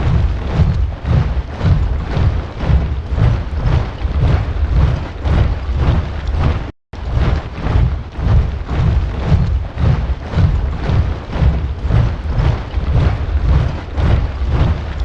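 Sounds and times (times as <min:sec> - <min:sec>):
soldiers marching in step: 0:00.0 - 0:15.0.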